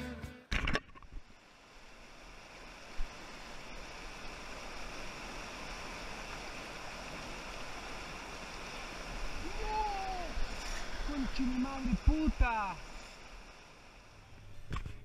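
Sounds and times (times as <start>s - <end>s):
river rushing over rocks: 1.3s - 14.2s.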